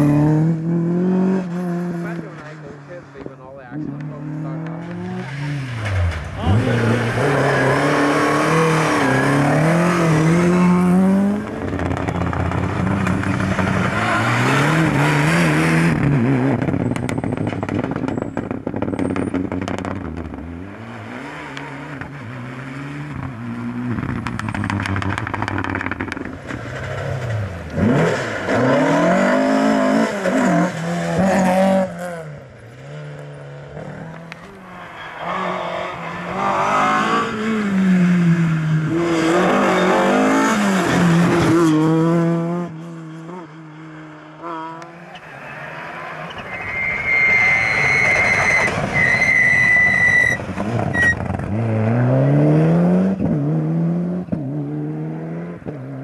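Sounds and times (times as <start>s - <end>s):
rally car engines revving past: 0.0s - 56.0s.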